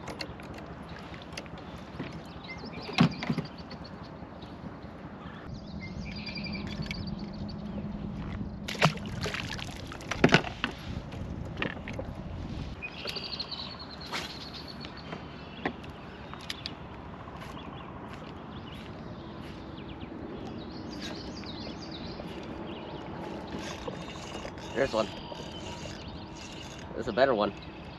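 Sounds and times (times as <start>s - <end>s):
birds chirping: 0.0s - 9.1s, 12.7s - 27.9s
small boat motor humming: 0.0s - 27.9s.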